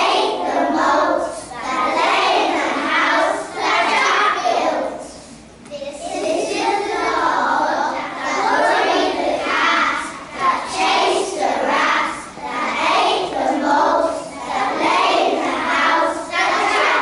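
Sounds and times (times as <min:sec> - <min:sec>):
children singing in unison: 0:00.0 - 0:05.1, 0:06.2 - 0:17.0.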